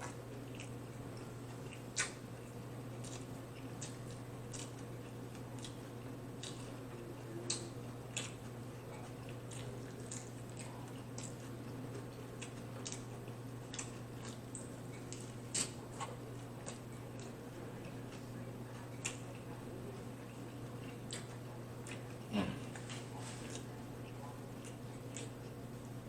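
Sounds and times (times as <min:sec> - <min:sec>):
wet chewing mouth smacks: 0:00.0 - 0:19.5, 0:20.3 - 0:23.8
steady low hum: 0:00.0 - 0:26.0.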